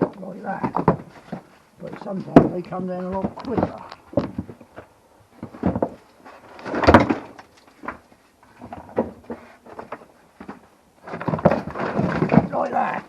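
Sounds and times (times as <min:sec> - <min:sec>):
logs knocking and clattering: 0:00.0 - 0:13.0.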